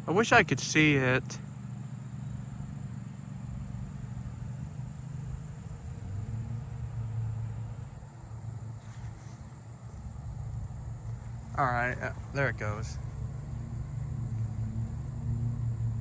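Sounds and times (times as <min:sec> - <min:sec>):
katydid high buzz and ticks: 0:00.0 - 0:16.0
traffic rumble: 0:00.0 - 0:16.0.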